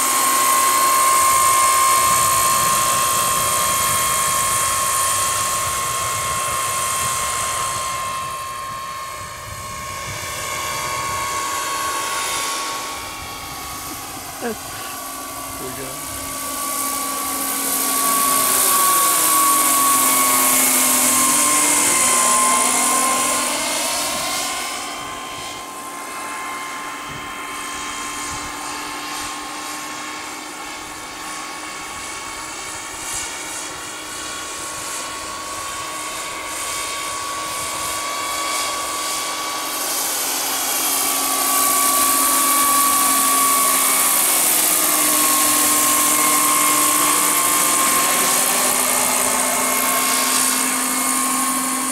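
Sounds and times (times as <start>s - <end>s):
high turbine whine: 0.0s - 51.9s
model helicopter rotor: 0.0s - 51.9s.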